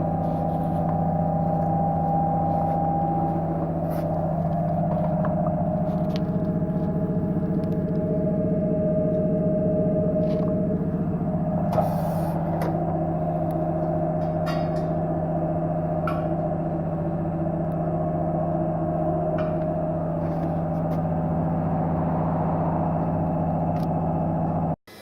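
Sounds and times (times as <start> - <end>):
machine hum: 0.0 - 24.8.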